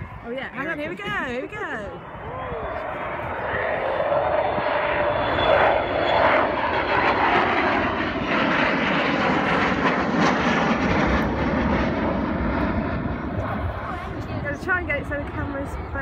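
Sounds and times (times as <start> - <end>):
jet bomber flying low past: 0.0 - 16.0.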